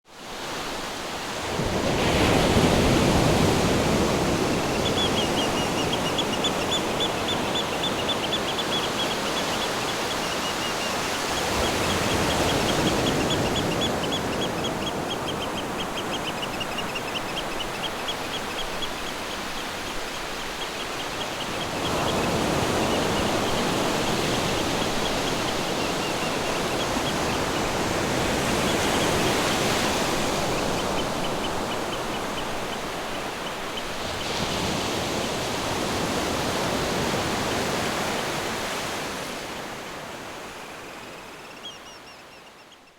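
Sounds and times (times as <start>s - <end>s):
ocean surf breaking on beach: 0.2s - 40.9s.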